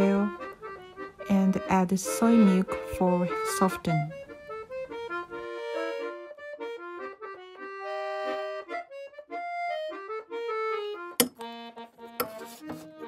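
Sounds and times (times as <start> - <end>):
accordion music: 0.0 - 13.0.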